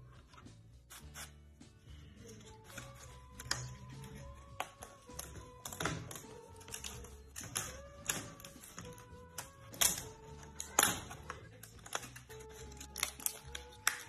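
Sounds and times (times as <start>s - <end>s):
faint background music: 0.0s - 14.0s
thin wooden sheets clicking: 2.6s - 14.0s.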